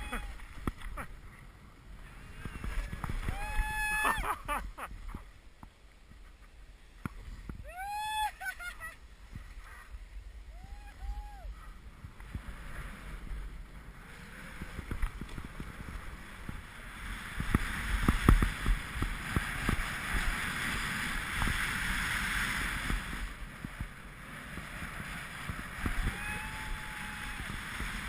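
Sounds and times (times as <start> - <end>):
skis scraping on snow: 0.0 - 5.3, 8.8 - 10.8, 11.5 - 28.0
wind rushing over microphone: 0.0 - 5.4, 6.0 - 28.0.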